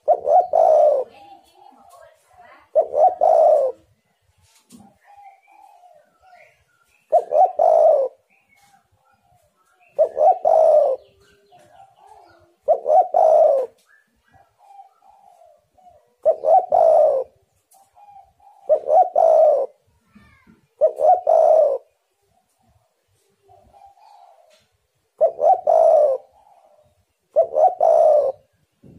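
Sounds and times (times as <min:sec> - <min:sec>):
dove cooing: 0:00.0 - 0:04.2, 0:04.8 - 0:28.9.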